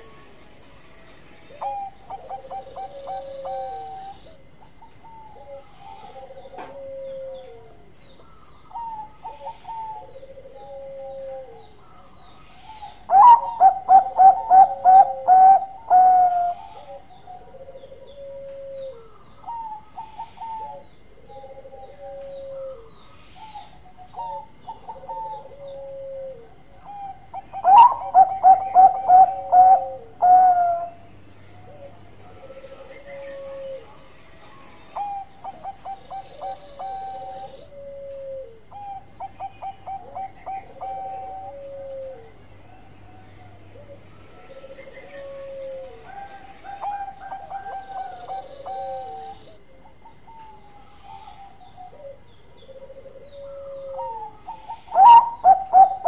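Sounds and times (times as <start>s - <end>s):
dove cooing in trilled coos: 1.5s - 33.9s, 35.0s - 56.0s.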